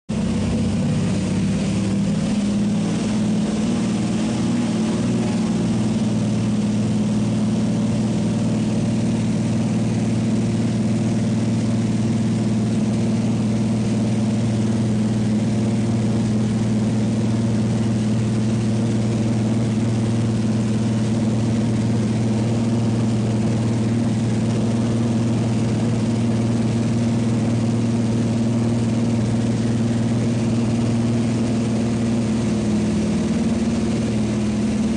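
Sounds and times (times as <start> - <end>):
propeller engine droning: 0.1 - 34.9.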